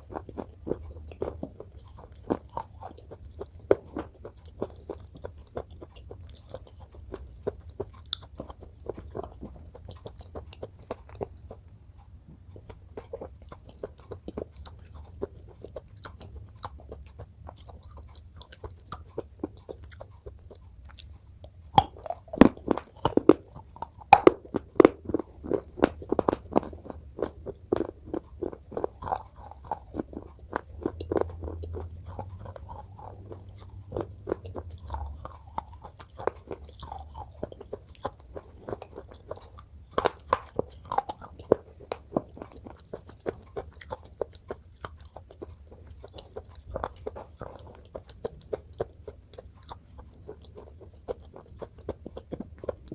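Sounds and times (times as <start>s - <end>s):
mouth crunching and chewing: 0.0s - 52.9s.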